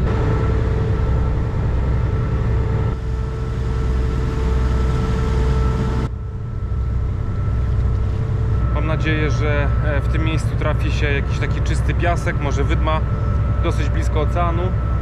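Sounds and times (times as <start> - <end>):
ferry engine droning: 0.0 - 15.0.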